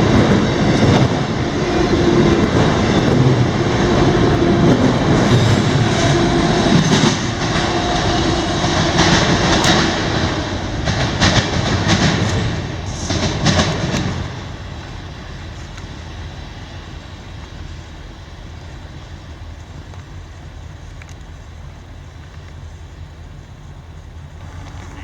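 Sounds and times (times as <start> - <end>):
train wheels clattering: 0.0 - 25.0.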